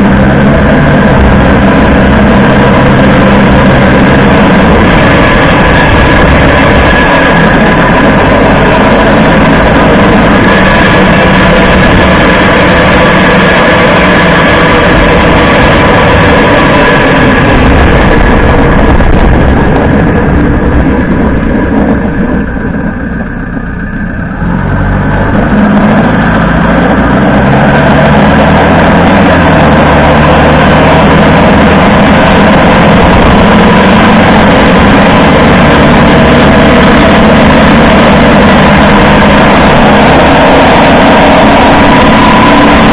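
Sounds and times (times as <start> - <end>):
drivetrain noise: 0.0 - 42.9
tyre road noise: 0.0 - 42.9.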